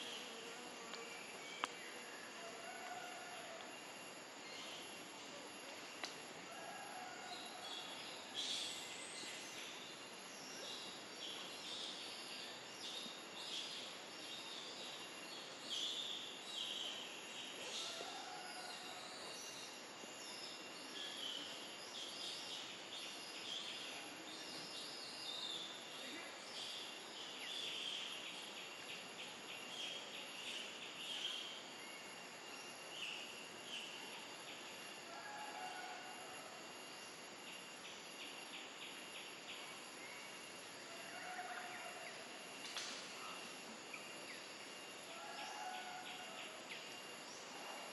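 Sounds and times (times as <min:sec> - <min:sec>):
insects buzzing drone: 0:00.0 - 0:47.9.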